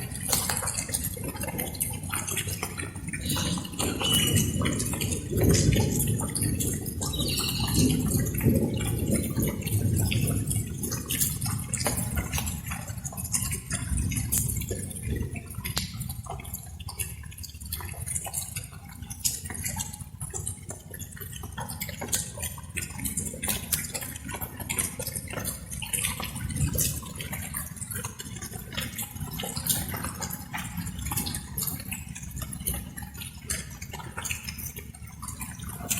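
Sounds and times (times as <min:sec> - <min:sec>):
raindrops dripping and pattering: 0:00.0 - 0:35.9.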